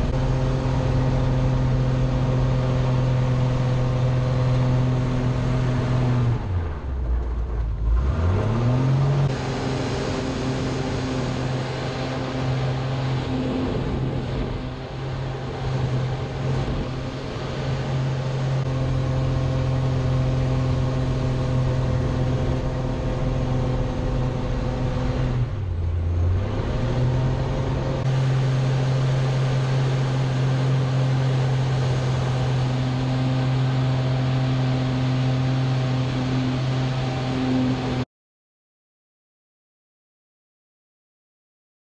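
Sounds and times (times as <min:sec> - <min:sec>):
plane engine drone from cockpit: 0:00.0 - 0:38.1.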